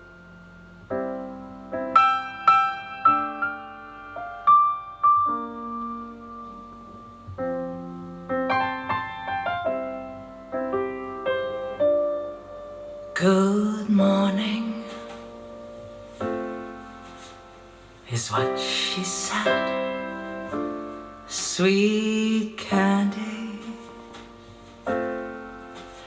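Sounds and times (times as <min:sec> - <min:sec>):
slow piano notes and chords: 0:00.0 - 0:26.0.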